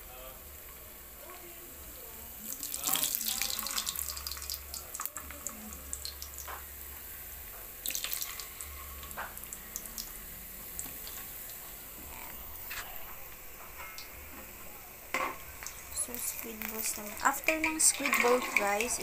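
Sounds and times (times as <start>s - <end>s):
food deep-frying in oil: 0.0s - 19.0s.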